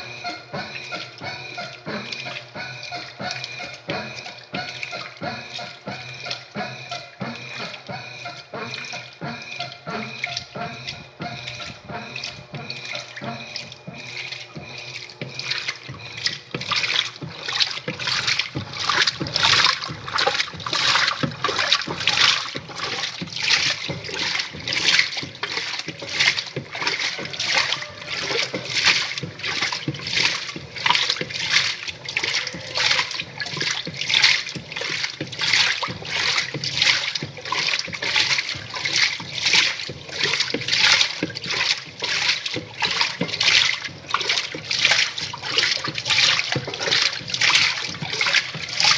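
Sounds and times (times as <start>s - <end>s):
washing machine motor hum: 0.0s - 48.9s
water sloshing in washing machine: 0.0s - 48.9s.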